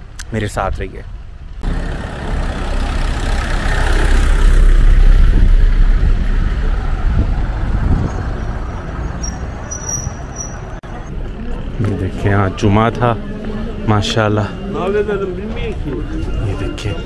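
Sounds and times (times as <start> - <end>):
minibus driving past: 1.3 - 17.0.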